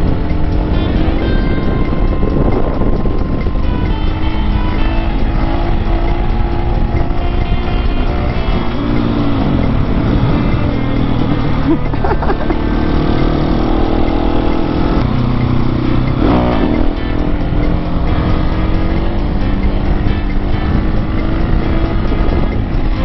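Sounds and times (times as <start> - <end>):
motorcycle engine riding: 0.0 - 23.0.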